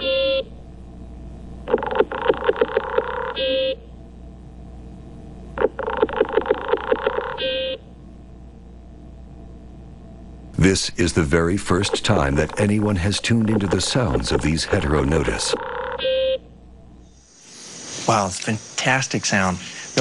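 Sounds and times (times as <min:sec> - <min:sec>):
treehopper buzzy pulses: 0:00.0 - 0:04.6, 0:05.4 - 0:08.3, 0:08.9 - 0:20.0.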